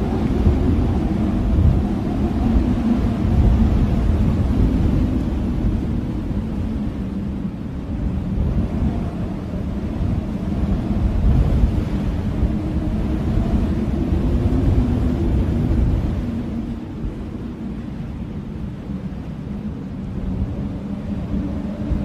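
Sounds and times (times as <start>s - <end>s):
blizzard wind howling: 0.0s - 22.0s.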